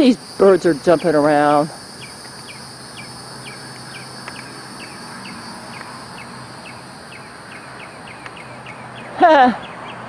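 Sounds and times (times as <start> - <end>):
high-pitched insect drone: 0.0 - 9.9.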